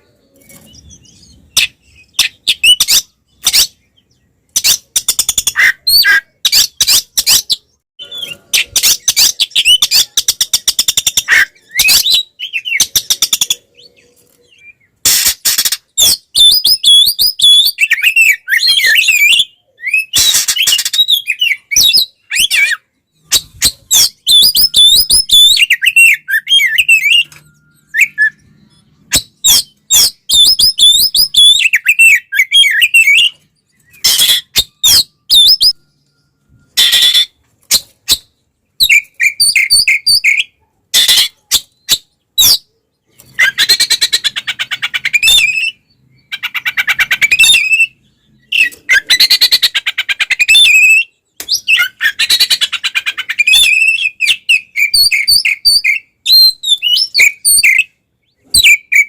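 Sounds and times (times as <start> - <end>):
bird singing whistled phrases: 0.2 - 15.0, 16.0 - 42.7, 43.4 - 52.6, 53.2 - 59.0.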